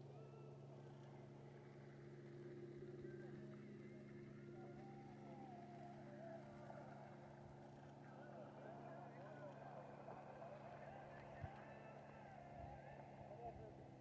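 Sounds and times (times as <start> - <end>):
faint distant voices: 0.0 - 14.0
faint motor hum: 0.0 - 14.0.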